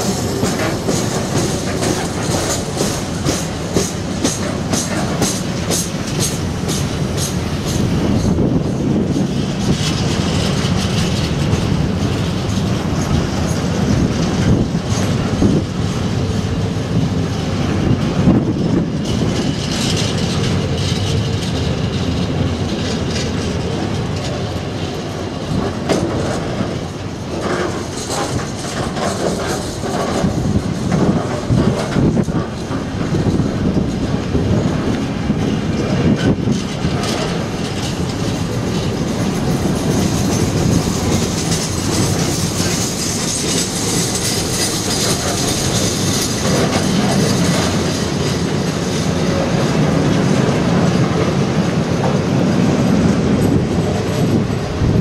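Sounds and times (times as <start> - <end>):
freight train rumble: 0.0 - 55.0
wheels clacking over rail joints: 0.0 - 55.0.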